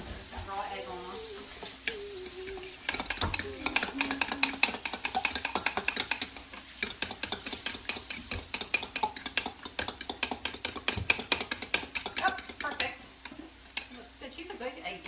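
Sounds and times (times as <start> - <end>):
utensil clicking against dish: 1.8 - 14.0.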